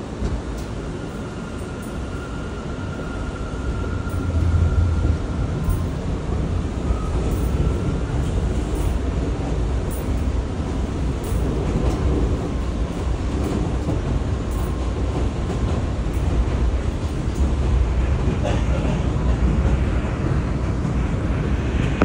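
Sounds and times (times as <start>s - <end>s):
rail clicks: 0.0s - 22.0s
subway train rumbling: 0.0s - 22.0s.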